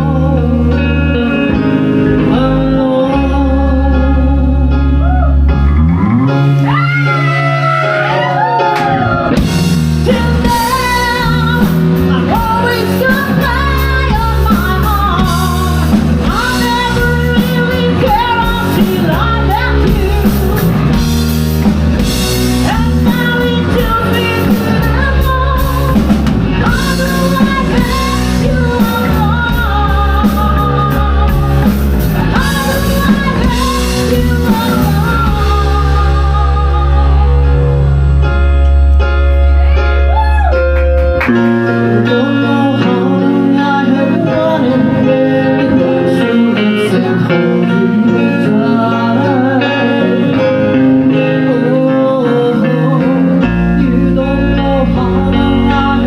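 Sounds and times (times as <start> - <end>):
lead singer singing: 0.0 - 5.5, 6.2 - 38.4, 41.6 - 56.0
rock band playing live: 0.0 - 56.0.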